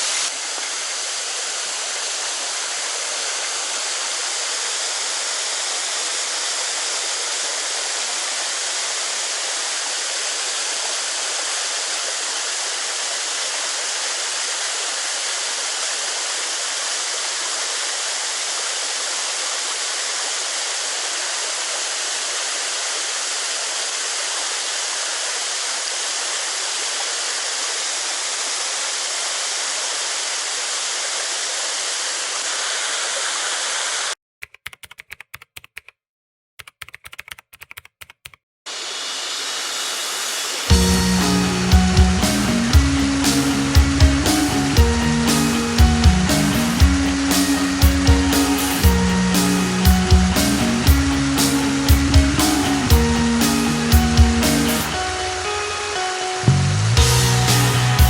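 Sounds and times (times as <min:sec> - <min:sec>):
stream water rushing: 0:00.0 - 0:34.2, 0:38.7 - 0:58.0.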